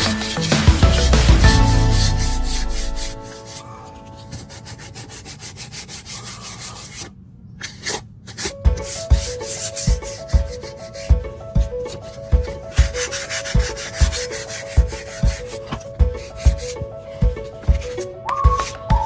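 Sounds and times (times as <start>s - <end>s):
sandpaper rubbing on wood: 0.0s - 11.2s, 11.8s - 18.8s.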